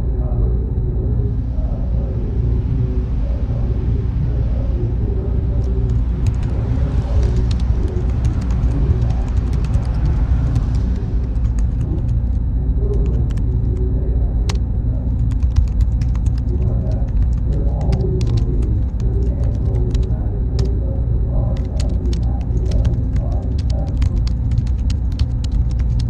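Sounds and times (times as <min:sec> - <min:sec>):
low hum of machines: 0:00.0 - 0:26.0
thin high whine: 0:00.0 - 0:26.0.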